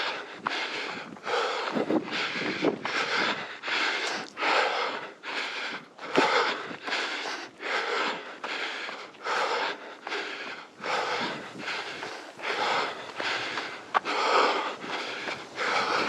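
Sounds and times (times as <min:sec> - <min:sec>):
runner breathing hard: 0:00.0 - 0:16.0.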